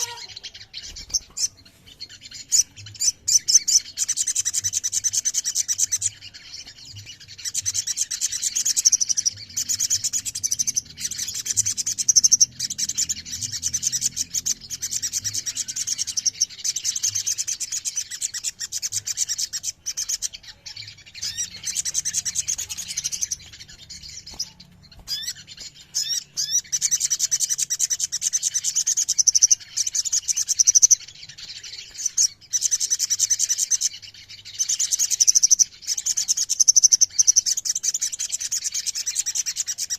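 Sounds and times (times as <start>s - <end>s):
birds trilling chatter: 0.0s - 39.9s.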